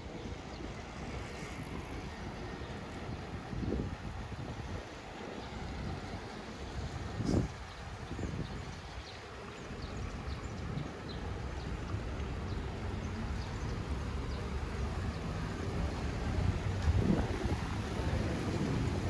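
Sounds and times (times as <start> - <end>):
low city rumble: 0.0 - 19.0.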